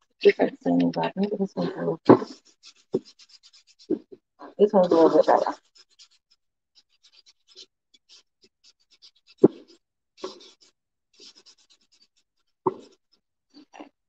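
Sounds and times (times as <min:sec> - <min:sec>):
sanding block scraping a pot: 0:00.9 - 0:13.0.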